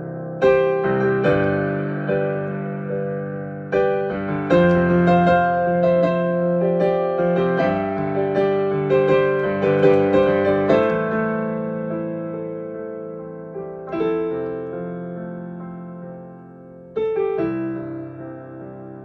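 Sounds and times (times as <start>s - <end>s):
improvised piano: 0.0s - 19.0s.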